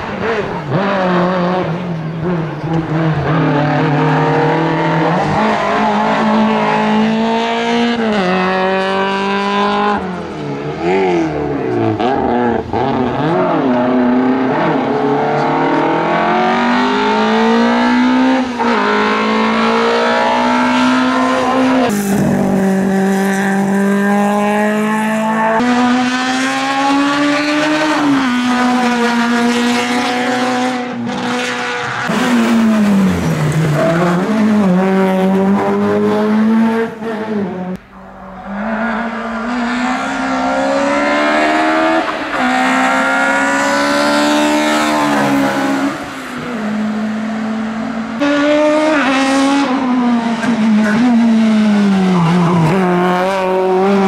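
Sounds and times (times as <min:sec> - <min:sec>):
rally car engines revving hard: 0:00.0 - 0:54.0.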